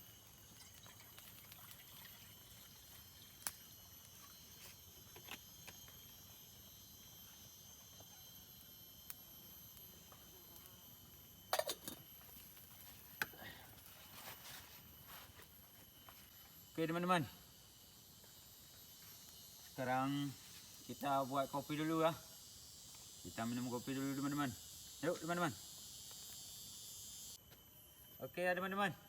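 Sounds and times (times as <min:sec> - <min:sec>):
forest insects chorus: 0:00.0 - 0:29.0.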